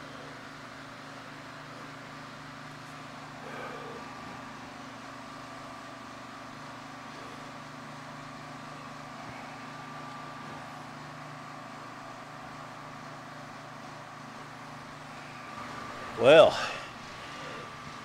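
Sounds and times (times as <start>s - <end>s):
mechanical hum with high whine: 0.0s - 18.0s.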